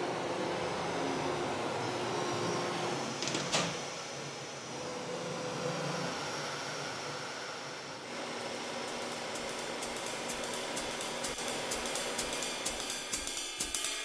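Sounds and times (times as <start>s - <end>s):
cnc router hum and hiss: 0.0s - 13.1s.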